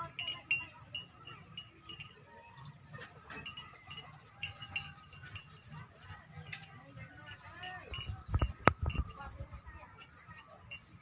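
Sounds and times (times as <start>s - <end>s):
small bells jingling: 0.0s - 11.0s.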